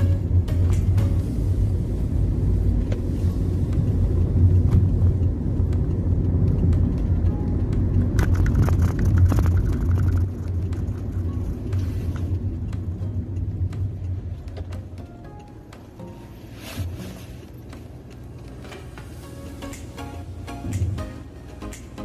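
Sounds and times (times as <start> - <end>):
road and engine rumble inside car: 0.0 - 22.0.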